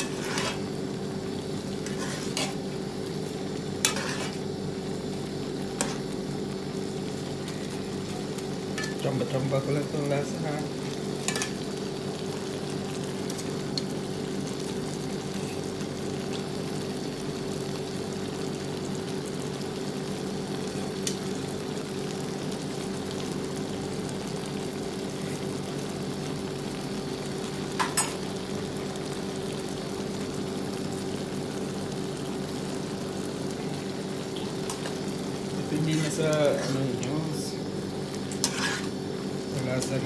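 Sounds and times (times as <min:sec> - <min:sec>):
shrimp sizzling in a pan: 0:00.0 - 0:40.0.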